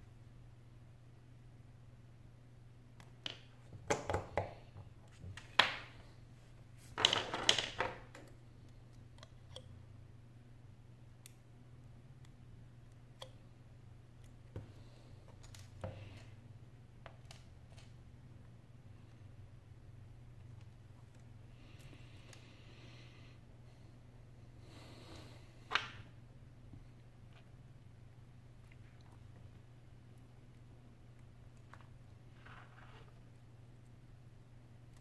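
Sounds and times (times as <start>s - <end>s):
faint steady low hum: 0.0s - 35.0s.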